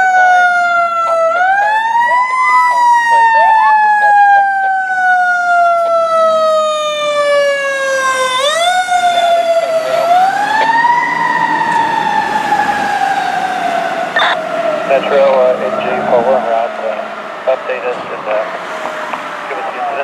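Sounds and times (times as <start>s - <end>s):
fire engine siren wailing: 0.0s - 20.0s.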